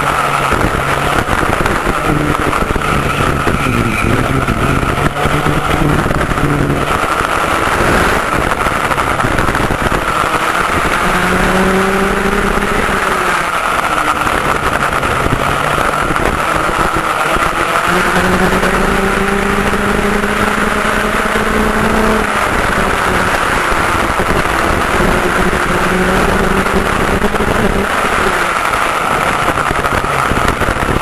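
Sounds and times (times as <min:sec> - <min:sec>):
kart engine racing: 0:00.0 - 0:31.0
wind and track noise: 0:00.0 - 0:31.0.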